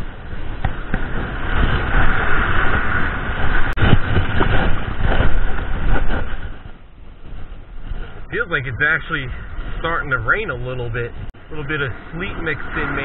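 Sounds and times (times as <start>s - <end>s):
breaking surf: 0.0s - 13.0s
wind on microphone: 0.0s - 13.0s.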